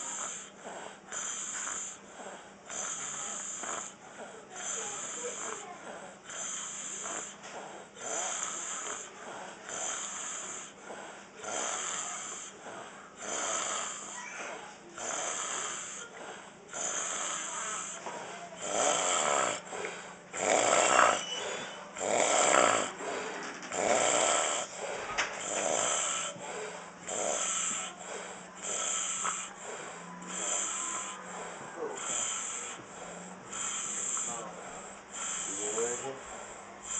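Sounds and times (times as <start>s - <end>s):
man snoring: 0.0s - 5.7s, 6.3s - 7.4s, 8.0s - 14.4s, 15.0s - 36.9s.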